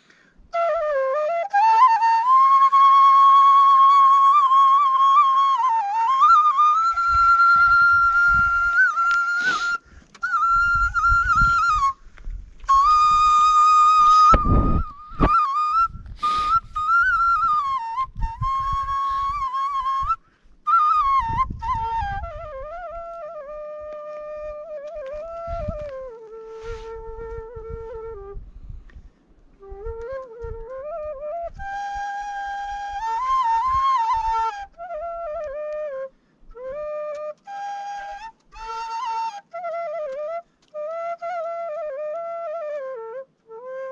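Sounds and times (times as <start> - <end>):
bamboo flute folk melody: 0.0 - 43.9.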